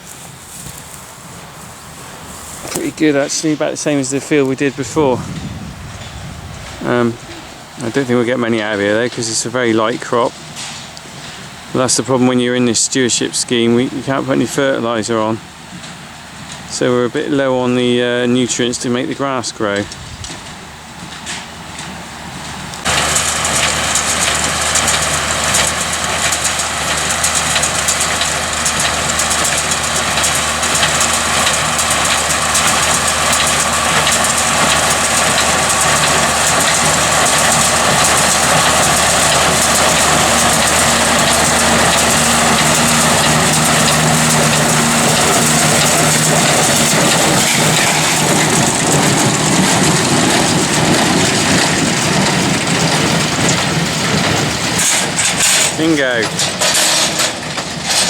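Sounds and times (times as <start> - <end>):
hay baler baling: 0.0 - 58.0
tractor engine running: 0.0 - 58.0.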